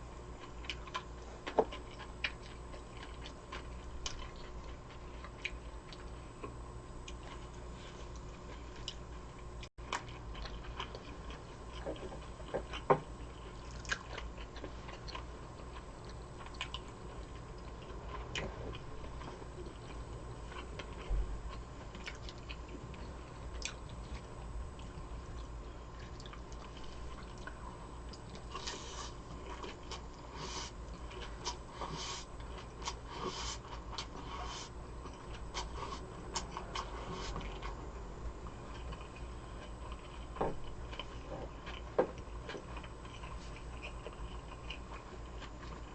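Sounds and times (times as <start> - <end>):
chewing and biting food: 0.0 - 45.9.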